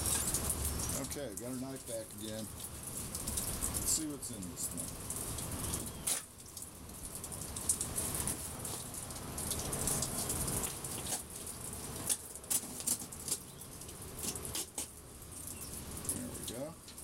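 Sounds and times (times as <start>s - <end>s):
sharp crackles: 0.0s - 17.0s.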